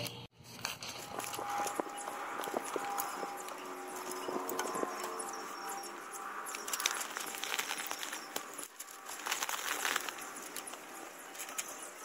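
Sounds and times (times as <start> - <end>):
crinkling crackling rattle: 0.5 - 12.0.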